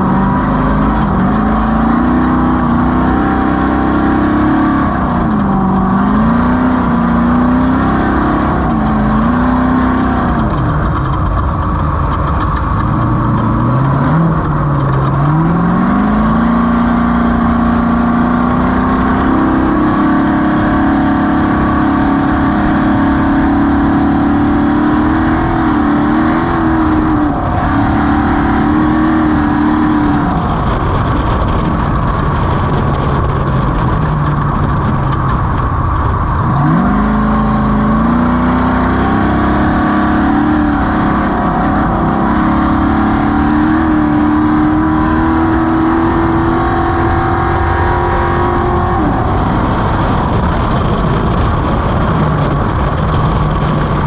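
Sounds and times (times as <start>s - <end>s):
race vehicle engine revving: 0.0s - 54.0s
rushing ride noise: 0.0s - 54.0s.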